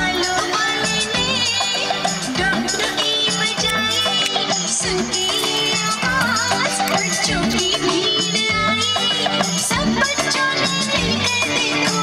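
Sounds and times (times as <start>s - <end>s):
melodic music over steady beat: 0.0s - 11.9s.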